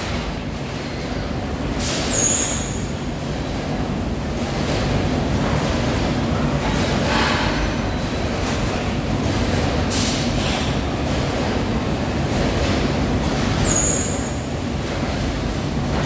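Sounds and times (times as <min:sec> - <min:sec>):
conveyor machinery running: 0:00.0 - 0:16.0.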